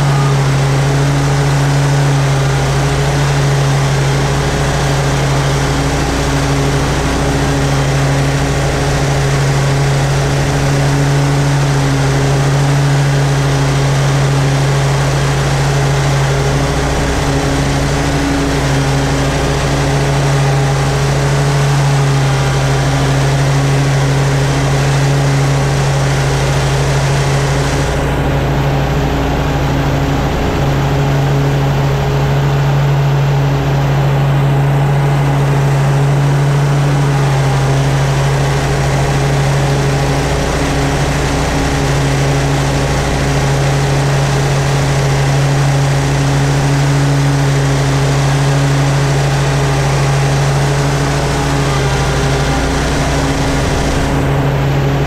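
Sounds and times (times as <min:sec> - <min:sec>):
mower engine hum: 0:00.0 - 0:55.0.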